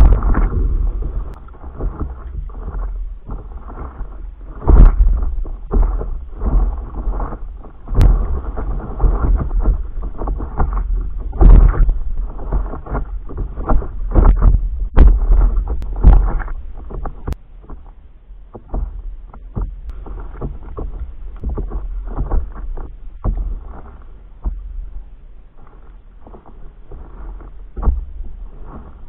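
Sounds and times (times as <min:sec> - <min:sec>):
paddle strokes in water: 0:00.0 - 0:29.0
water splashing against paddleboard: 0:00.0 - 0:29.0.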